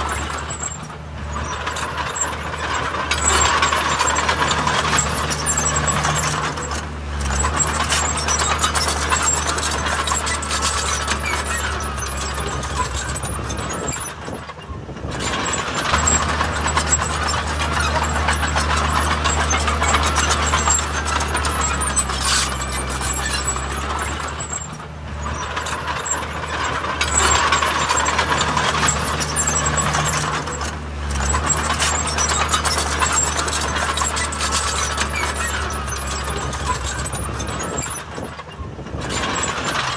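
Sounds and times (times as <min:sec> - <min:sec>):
heavy diesel machinery running: 0:00.0 - 0:39.9
metallic clatter: 0:00.0 - 0:39.9.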